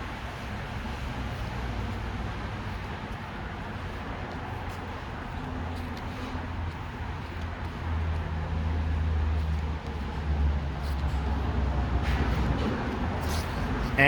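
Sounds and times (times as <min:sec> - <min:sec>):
vehicle running hum: 0:00.0 - 0:14.0.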